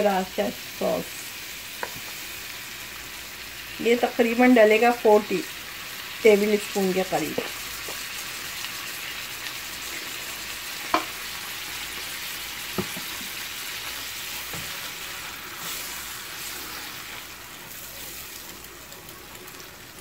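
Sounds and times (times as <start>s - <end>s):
chicken wings sizzling in oil: 0.0s - 20.0s.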